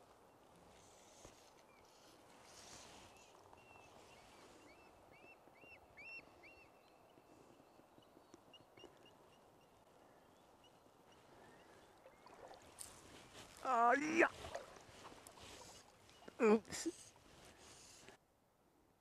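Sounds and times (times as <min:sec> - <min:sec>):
faint outdoor hiss: 0:00.0 - 0:19.0.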